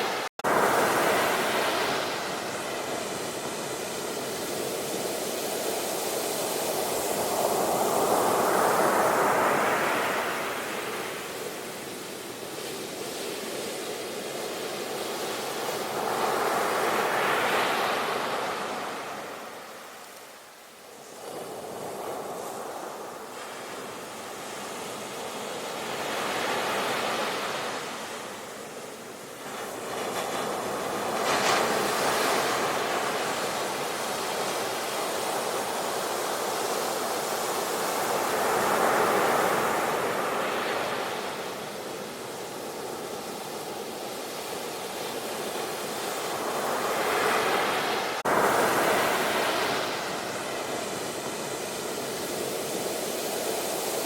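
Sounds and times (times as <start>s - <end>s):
sea waves breaking ashore: 0.0s - 54.0s.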